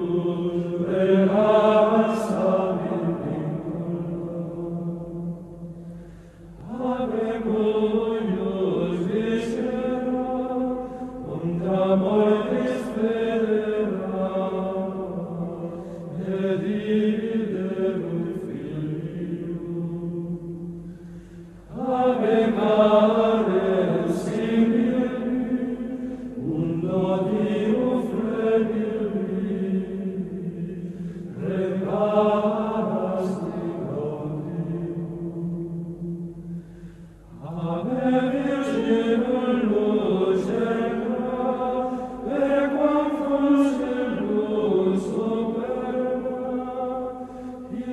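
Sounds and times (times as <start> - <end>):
slow chanted singing: 0.0 - 47.9.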